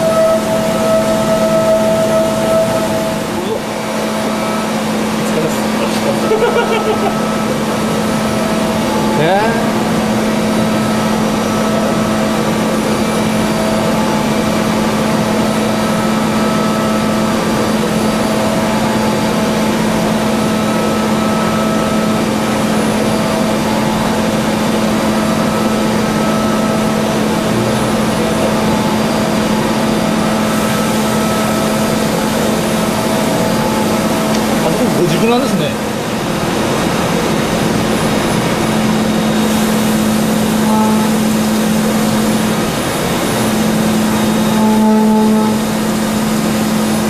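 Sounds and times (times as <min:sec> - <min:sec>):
high whining tones: 0:00.0 - 0:47.0
milling machine spindle hum: 0:00.0 - 0:47.0.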